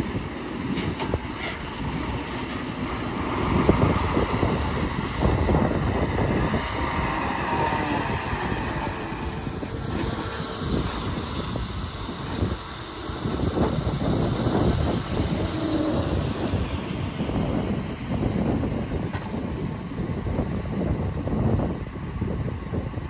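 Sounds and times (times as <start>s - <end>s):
heavy diesel machinery running: 0.0s - 23.0s.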